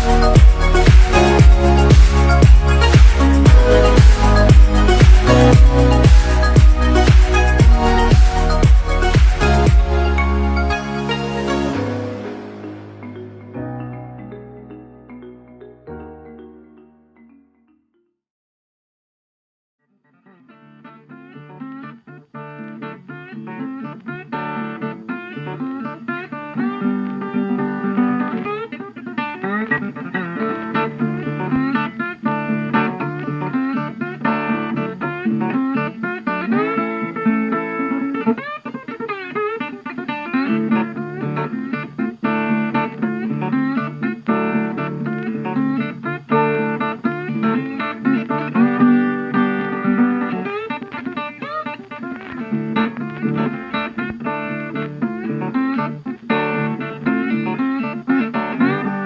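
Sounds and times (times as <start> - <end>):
bluesy plucked guitar: 0.0 - 17.4, 20.1 - 59.0.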